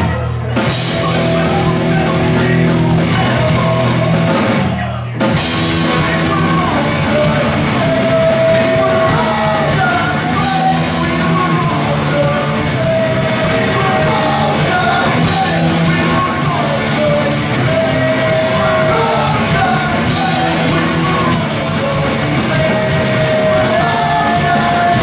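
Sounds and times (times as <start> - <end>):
punk band playing live: 0.0 - 25.0
singer yelling into microphone: 0.9 - 25.0.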